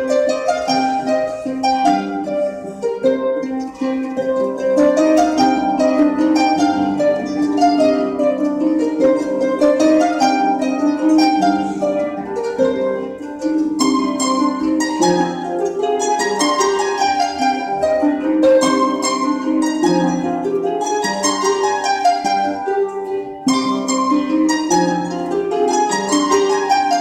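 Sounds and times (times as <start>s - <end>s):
harps plucking arpeggios: 0.0s - 27.0s.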